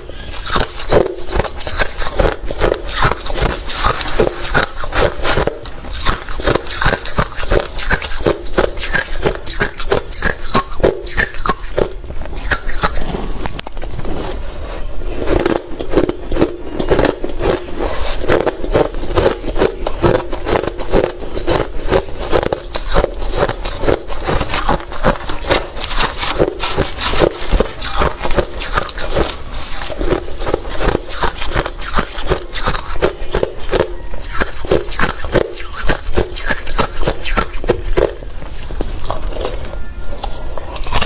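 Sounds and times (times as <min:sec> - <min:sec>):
person chewing ice crunches: 0:00.0 - 0:41.0.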